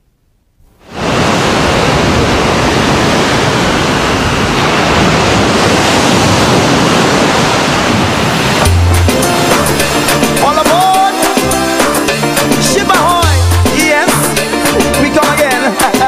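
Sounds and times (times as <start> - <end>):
surf washing onto beach: 0.8 - 14.6.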